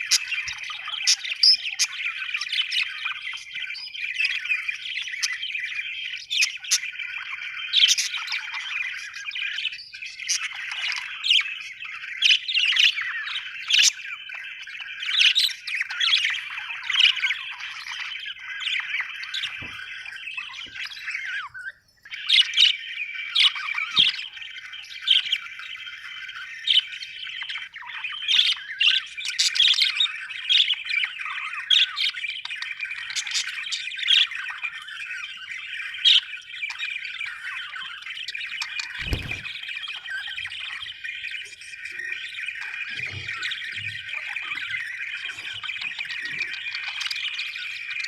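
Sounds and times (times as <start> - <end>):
budgerigars warbling and chattering: 0.0 - 48.0
sharp bird squawks and chirps: 0.0 - 48.0.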